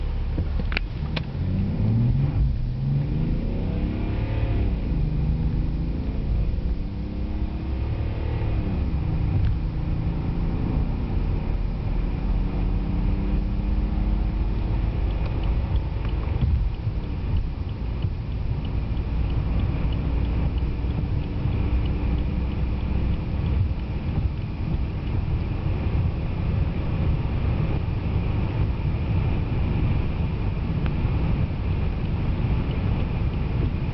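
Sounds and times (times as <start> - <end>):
car engine accelerating hard: 0.0 - 33.9.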